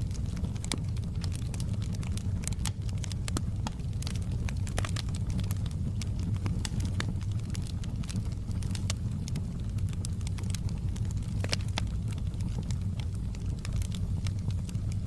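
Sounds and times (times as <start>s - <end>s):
low fire rumble: 0.0s - 15.0s
wood fire crackling and popping: 0.0s - 15.0s.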